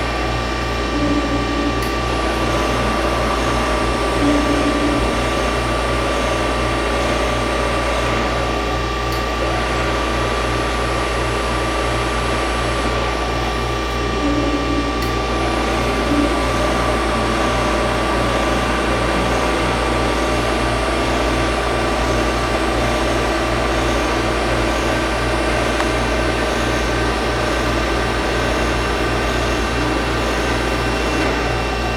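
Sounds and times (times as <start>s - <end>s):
milling machine humming and whining: 0.0s - 31.9s.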